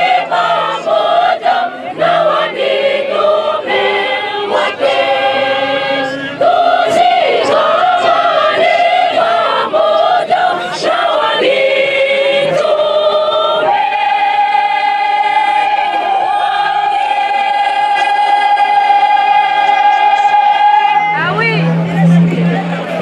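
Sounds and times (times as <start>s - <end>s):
choir singing a hymn: 0.0s - 23.0s.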